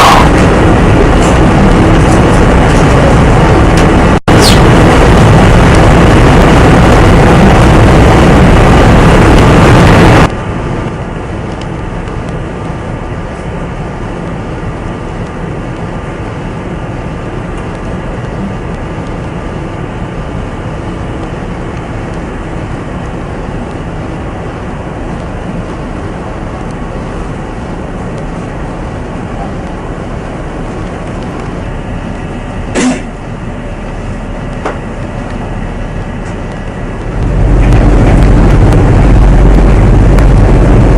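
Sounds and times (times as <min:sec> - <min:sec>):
loud rushing noise: 0:00.0 - 0:40.9
ship machinery hum: 0:00.0 - 0:40.9.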